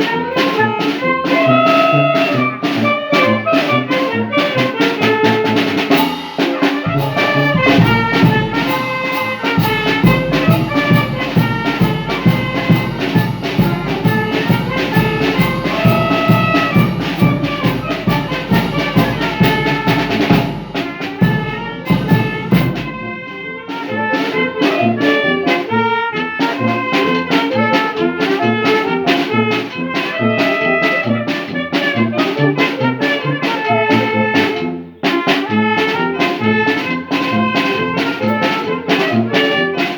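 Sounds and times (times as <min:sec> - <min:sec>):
brass band playing: 0:00.0 - 0:39.9
drums steady beat: 0:00.0 - 0:39.9.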